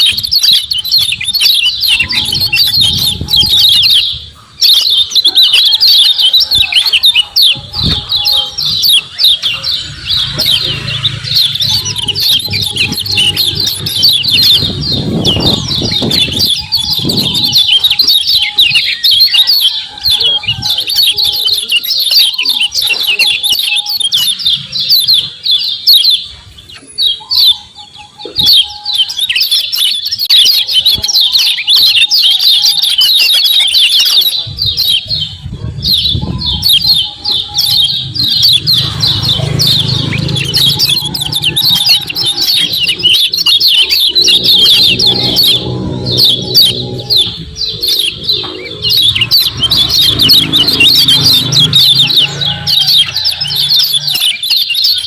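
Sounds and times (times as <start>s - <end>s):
birds twittering chirps: 0.0s - 55.0s.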